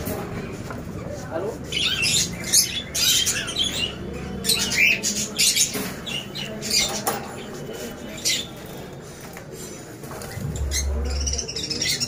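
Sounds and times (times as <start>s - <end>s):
cage birds chirping and squawking: 0.0s - 12.0s.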